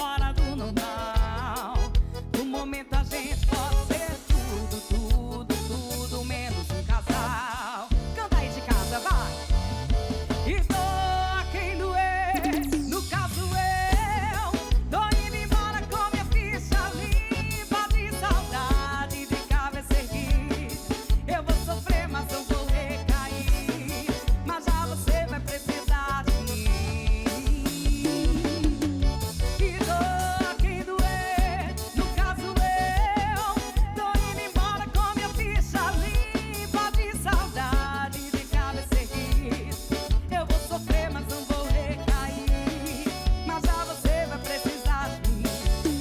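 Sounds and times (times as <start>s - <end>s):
drum kit beat: 0.0s - 46.0s
live band music: 0.0s - 46.0s.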